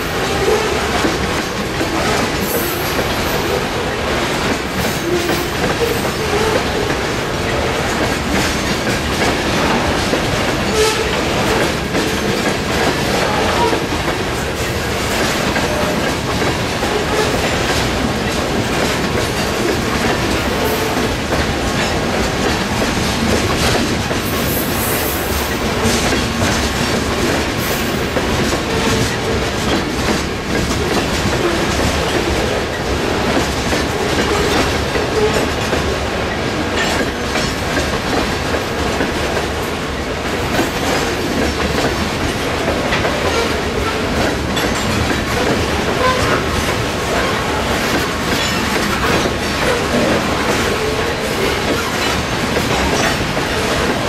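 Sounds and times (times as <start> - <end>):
freight train rolling past: 0.0 - 54.0
wheels clacking over rail joints: 0.0 - 54.0.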